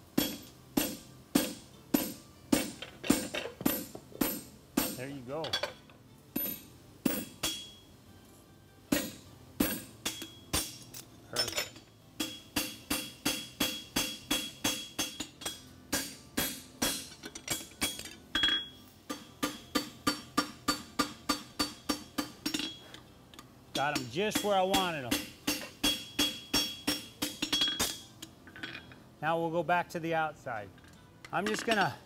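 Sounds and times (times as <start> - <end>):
hammer striking horseshoe on anvil: 0.2 - 5.8, 6.4 - 7.8, 8.9 - 22.8, 23.7 - 28.9.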